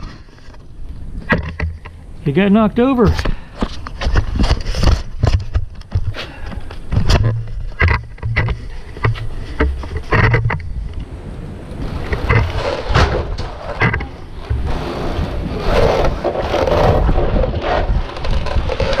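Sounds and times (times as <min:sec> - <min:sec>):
scraping rustling noise: 0:03.0 - 0:11.1, 0:11.7 - 0:19.0.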